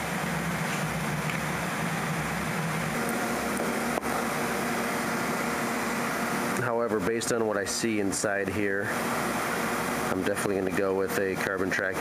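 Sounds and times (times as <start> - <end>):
mechanical hum with low drone: 0.0 - 12.0.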